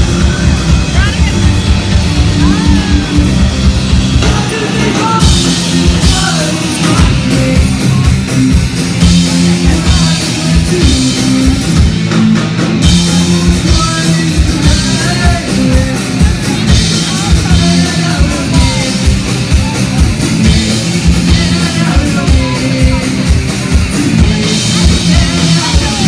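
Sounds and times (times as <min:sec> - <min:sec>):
bass guitar: 0:00.0 - 0:26.0
distorted electric guitars: 0:00.0 - 0:26.0
drum kit with cymbals: 0:00.0 - 0:26.0.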